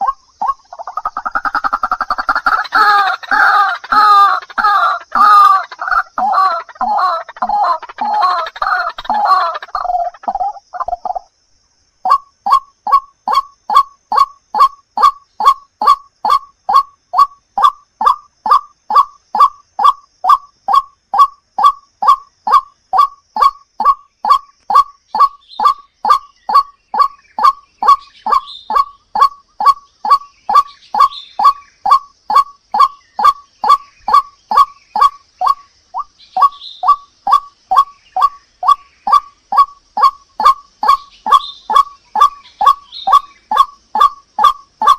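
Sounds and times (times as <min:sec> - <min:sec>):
waterhen calls: 0:00.0 - 0:11.3, 0:12.0 - 0:44.9.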